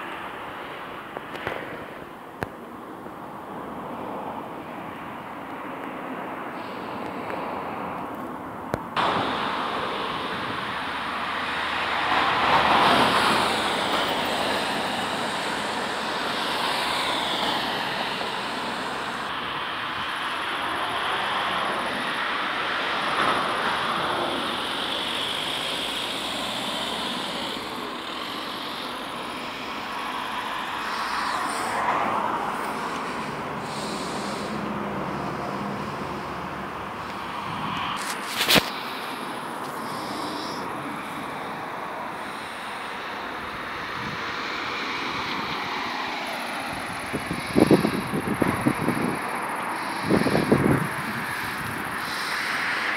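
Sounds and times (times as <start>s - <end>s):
cars passing: 0.0s - 52.9s
traffic background: 0.0s - 52.9s.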